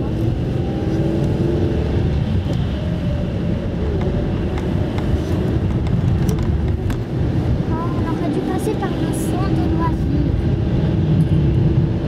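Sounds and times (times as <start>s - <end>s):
car engine rumble: 0.0s - 12.0s
tyres on snowy road: 0.0s - 12.0s.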